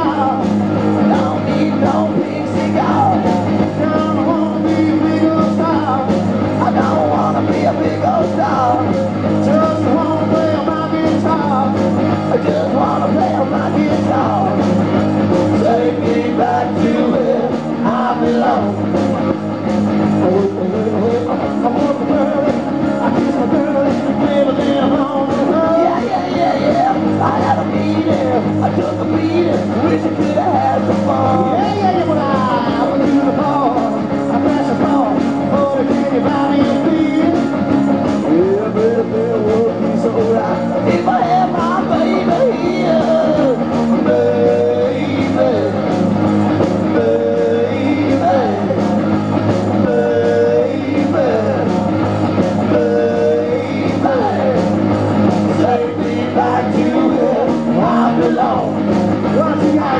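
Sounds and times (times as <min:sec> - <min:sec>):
drum beat: 0:00.0 - 0:59.9
electric guitars: 0:00.0 - 0:59.9
man singing: 0:00.0 - 0:59.9.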